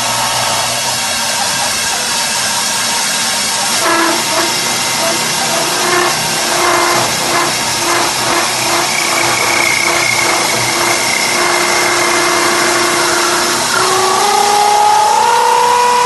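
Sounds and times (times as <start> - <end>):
high steady whine: 0.0 - 16.0
lathe motor hum: 0.0 - 16.0
wood chips hissing on lathe: 0.0 - 16.0.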